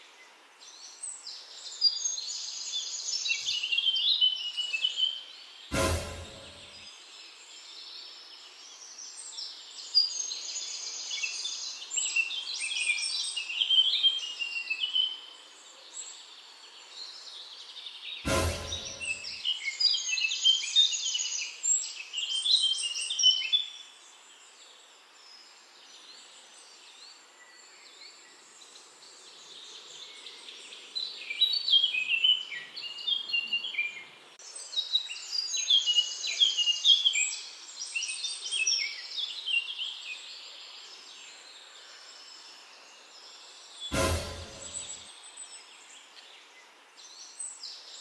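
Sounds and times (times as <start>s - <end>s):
faint outdoor hiss: 0.0s - 18.2s, 18.8s - 48.0s
songbird chirping and trilling: 0.1s - 24.6s, 25.2s - 48.0s.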